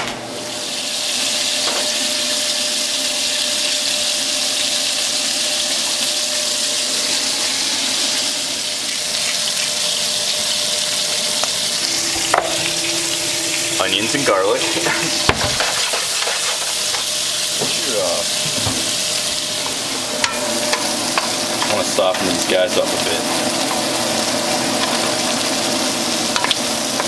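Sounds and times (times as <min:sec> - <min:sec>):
onions sizzling in a frying pan: 0:00.4 - 0:27.0.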